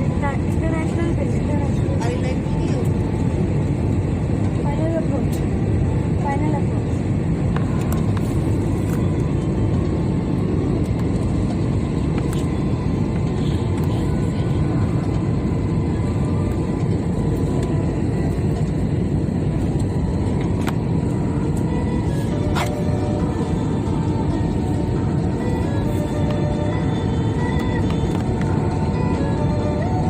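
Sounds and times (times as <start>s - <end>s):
airliner cabin engine roar: 0.0s - 30.0s.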